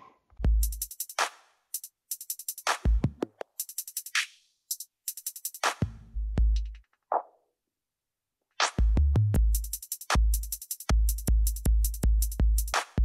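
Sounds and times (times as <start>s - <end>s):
drum machine beat: 0.4s - 6.8s, 8.7s - 13.0s.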